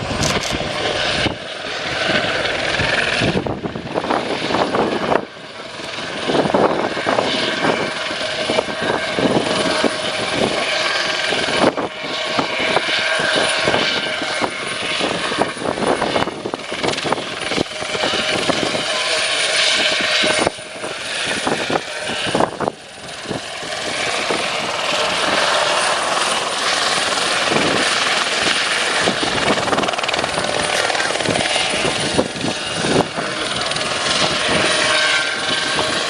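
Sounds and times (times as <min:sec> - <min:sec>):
helicopter engine and rotors: 0:00.0 - 0:36.0.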